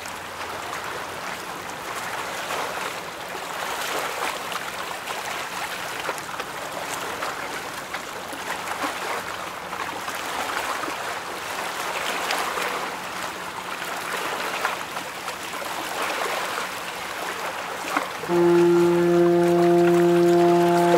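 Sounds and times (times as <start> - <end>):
river water rushing and splashing: 0.0 - 20.9.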